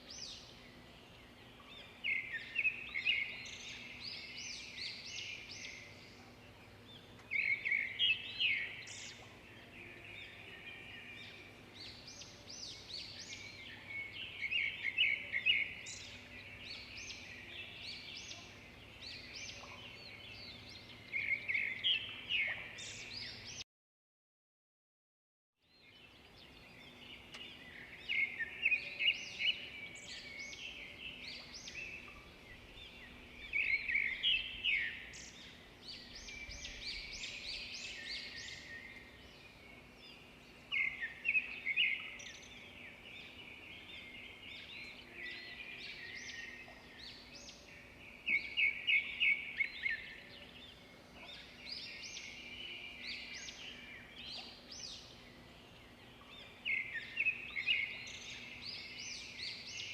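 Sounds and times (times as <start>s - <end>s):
bird song bright notes: 0.0s - 23.6s, 25.6s - 59.9s.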